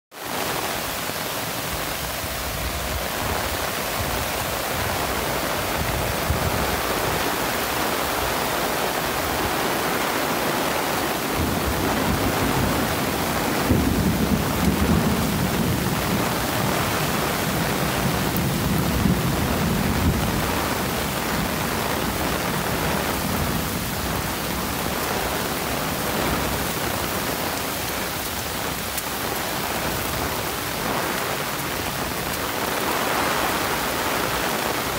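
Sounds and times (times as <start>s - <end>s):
heavy rain hissing: 0.2s - 34.9s.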